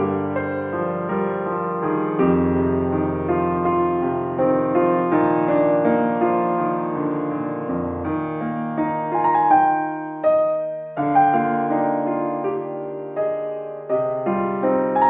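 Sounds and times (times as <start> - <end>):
soft piano melody: 0.0 - 15.0.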